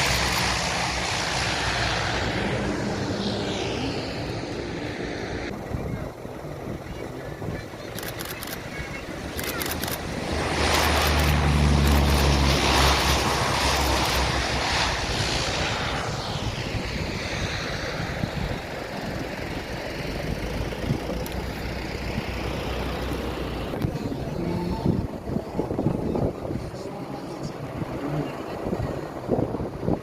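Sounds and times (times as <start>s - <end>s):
aircraft engine passing overhead: 0.0s - 30.0s.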